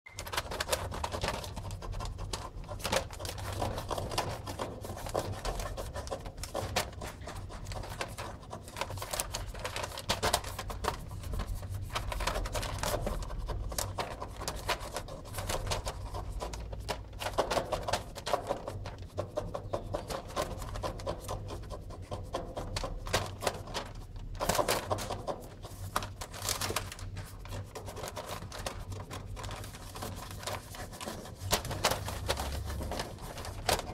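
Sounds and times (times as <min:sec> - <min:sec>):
magazine paper rustling: 0:00.1 - 0:19.5, 0:22.6 - 0:33.9
kitten claws scratching: 0:00.2 - 0:33.9.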